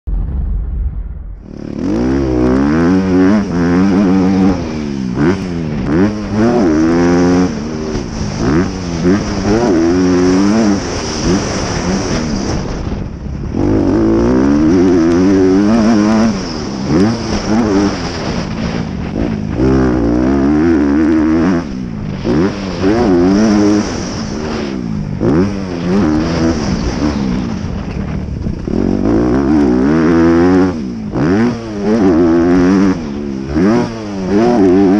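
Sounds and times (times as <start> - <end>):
motocross engine revving: 1.4 - 12.8, 13.4 - 27.7, 28.6 - 34.9.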